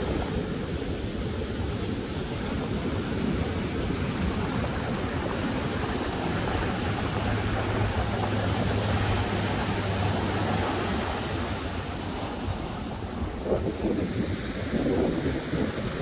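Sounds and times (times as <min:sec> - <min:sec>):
ocean surf washing up beach: 0:00.0 - 0:16.0.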